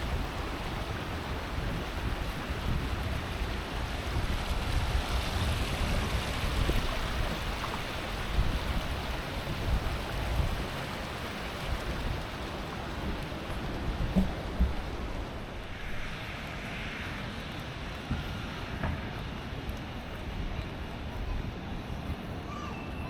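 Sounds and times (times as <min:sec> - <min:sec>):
rain hiss: 0:00.0 - 0:22.6
wind buffeting microphone: 0:00.0 - 0:23.0.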